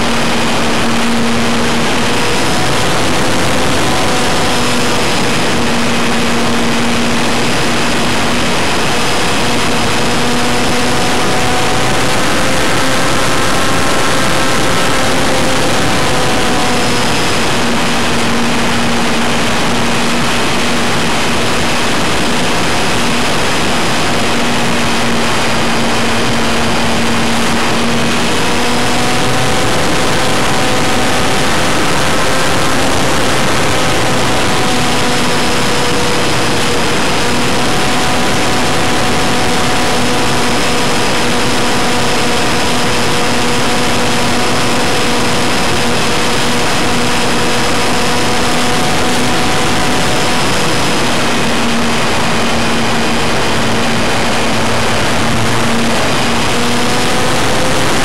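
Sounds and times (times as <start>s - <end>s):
electric motor whine: 0.0s - 58.0s.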